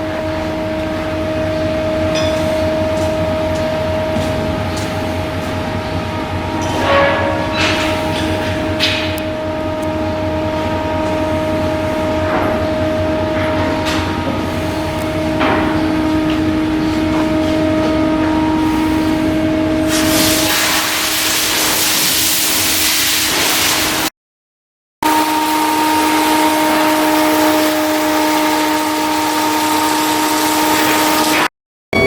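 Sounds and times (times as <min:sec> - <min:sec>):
machinery hum: 0:00.0 - 0:24.1, 0:25.0 - 0:32.0.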